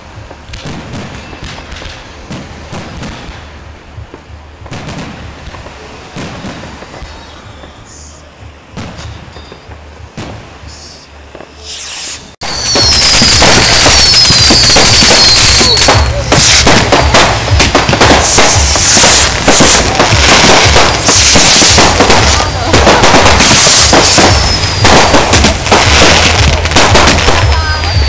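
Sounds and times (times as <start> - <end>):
fireworks banging and crackling: 0.0 - 28.0
fireworks whistles falling in pitch: 0.6 - 3.4, 5.6 - 28.0.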